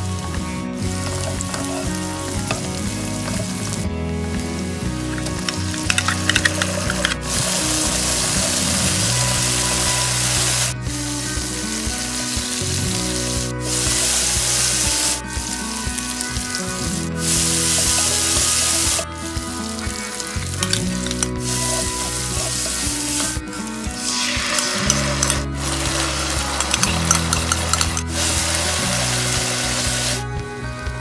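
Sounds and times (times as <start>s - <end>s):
food sizzling in hot oil: 0.0s - 30.3s
spatula stirring in a wok: 0.8s - 3.8s, 5.2s - 30.1s.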